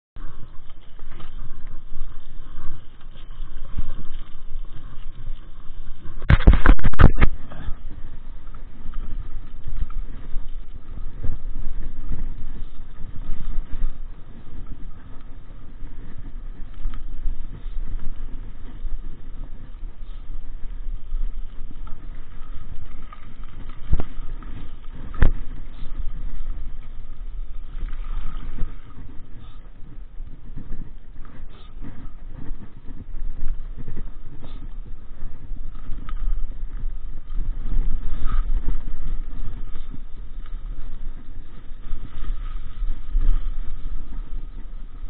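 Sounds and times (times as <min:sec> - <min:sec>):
bike tyres rumbling on dirt: 0:00.2 - 0:45.0.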